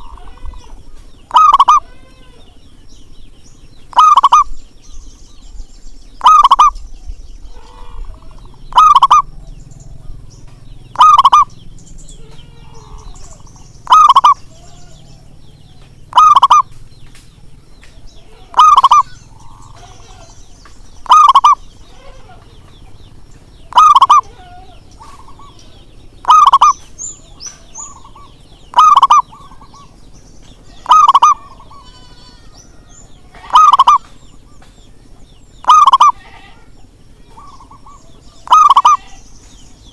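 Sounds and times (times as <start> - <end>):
dove cooing: 0.0 - 2.6, 3.8 - 5.0, 6.2 - 17.0, 17.6 - 39.2
birds chirping: 0.0 - 39.9.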